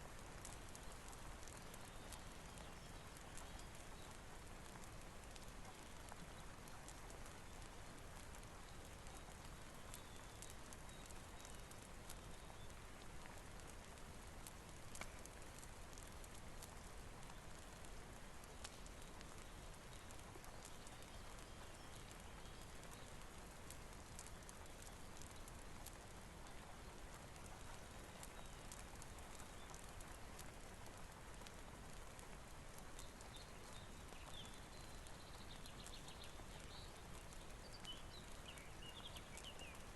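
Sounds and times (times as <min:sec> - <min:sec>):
steady rain hiss: 0:00.0 - 0:39.9
wood fire crackling: 0:00.0 - 0:39.9.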